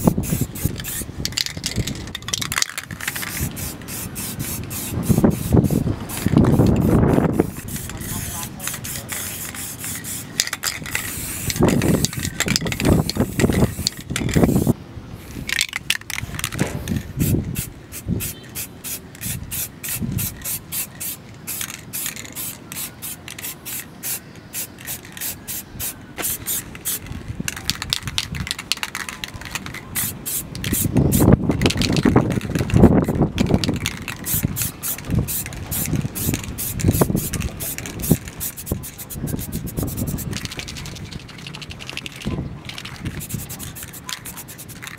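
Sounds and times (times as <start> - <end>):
spray can hissing: 0.0 - 15.5, 16.7 - 44.9.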